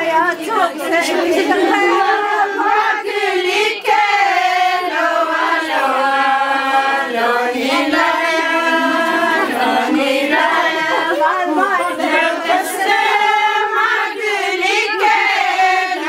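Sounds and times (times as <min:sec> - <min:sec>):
women singing unaccompanied: 0:00.0 - 0:16.0.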